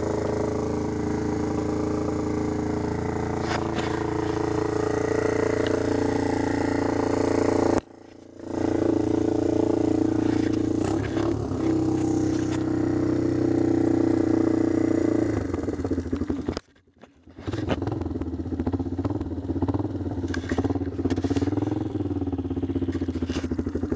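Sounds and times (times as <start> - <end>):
engine idling: 0.0 - 23.9.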